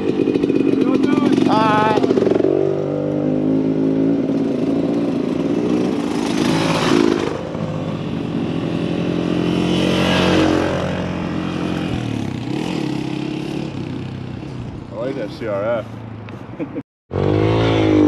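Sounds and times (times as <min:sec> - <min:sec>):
dirt bike engines idling and revving: 0:00.0 - 0:18.0.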